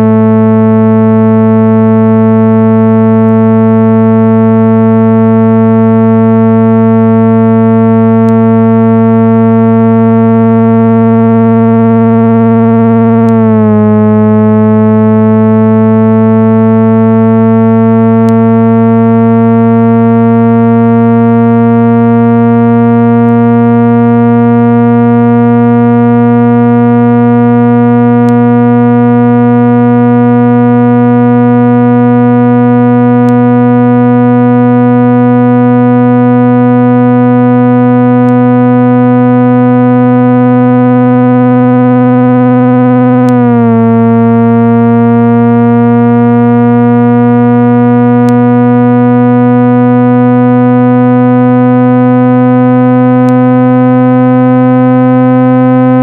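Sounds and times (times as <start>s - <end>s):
low synthesized buzzing tone: 0.0s - 56.0s.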